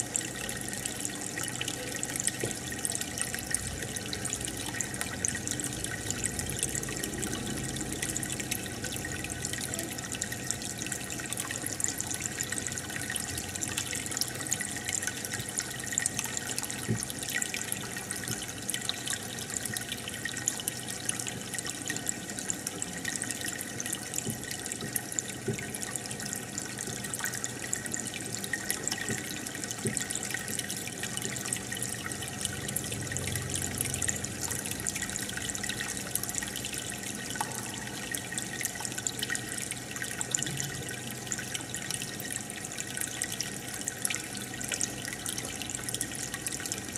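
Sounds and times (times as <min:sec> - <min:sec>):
aquarium bubbles popping: 0:00.0 - 0:20.8, 0:22.6 - 0:46.9.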